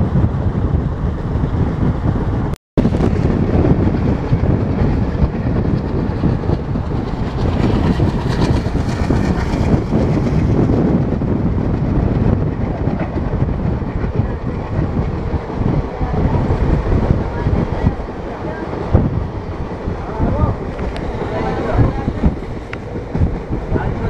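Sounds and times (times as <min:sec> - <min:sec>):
train wheels rumbling on rails: 0:00.0 - 0:24.0
clickety-clack over rail joints: 0:02.9 - 0:24.0.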